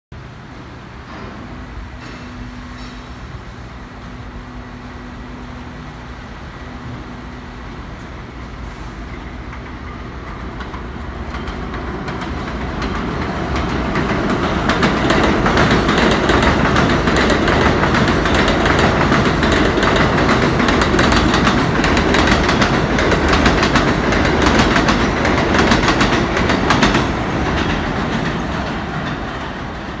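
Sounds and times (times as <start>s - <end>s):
subway train passing: 0.1s - 30.0s.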